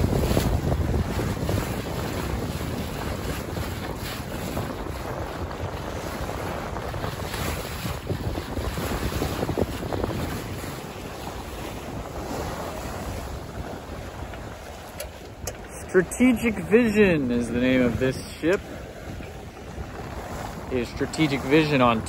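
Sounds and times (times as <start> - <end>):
sea washing around boat: 0.0 - 22.0
wind buffeting microphone: 0.0 - 22.0.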